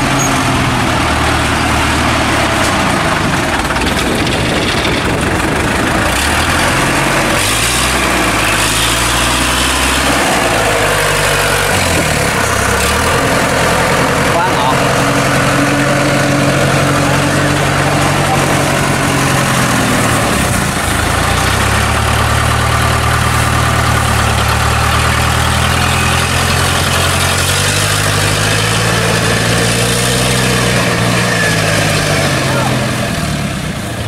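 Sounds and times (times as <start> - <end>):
small cart engine running: 0.0 - 34.0.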